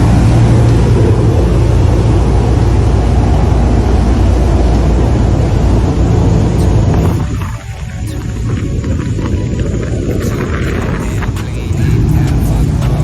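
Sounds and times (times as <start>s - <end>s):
boat engine hum: 0.0s - 13.0s
rushing wind: 0.0s - 13.0s
water noise: 0.0s - 13.0s.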